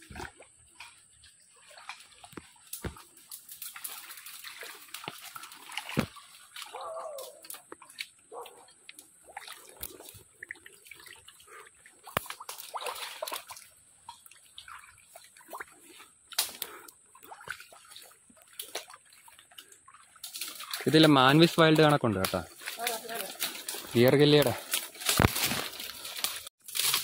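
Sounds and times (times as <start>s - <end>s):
footsteps squelching through mud: 0.0s - 27.0s.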